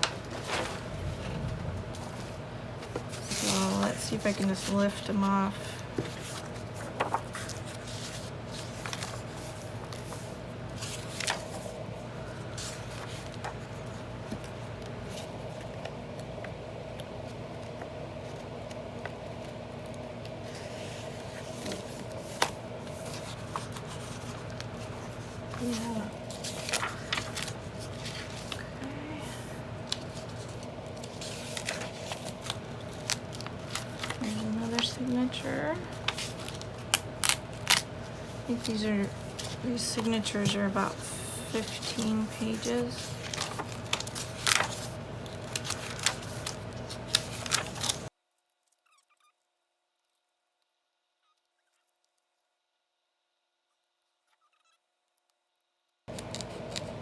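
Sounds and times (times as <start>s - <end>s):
book pages rustling: 0.0s - 48.8s, 56.1s - 57.0s.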